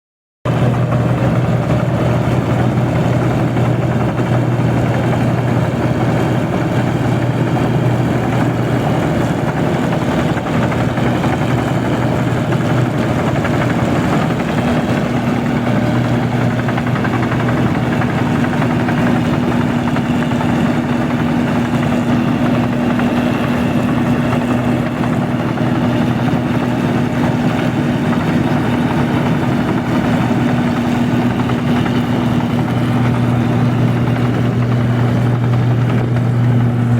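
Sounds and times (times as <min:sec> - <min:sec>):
combine harvester engine running: 0:00.5 - 0:36.9.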